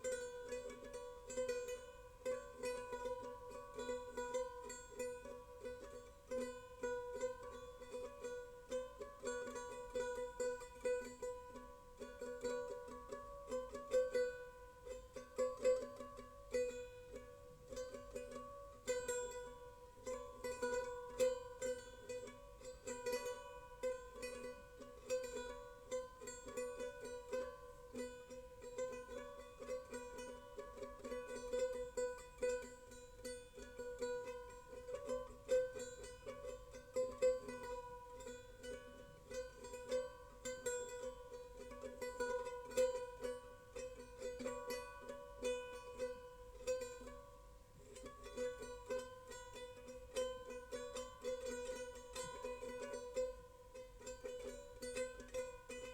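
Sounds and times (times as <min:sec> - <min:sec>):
plucked string tune: 0:00.0 - 0:55.9.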